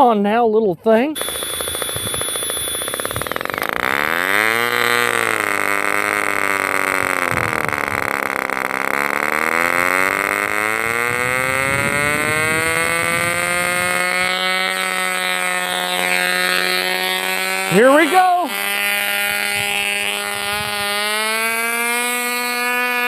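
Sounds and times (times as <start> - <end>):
small two-stroke engine running: 1.1 - 23.0.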